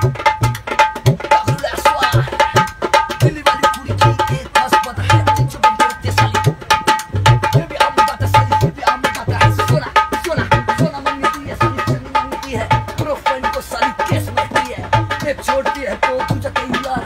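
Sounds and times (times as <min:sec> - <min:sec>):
barrel drum played by hand: 0:00.0 - 0:17.0.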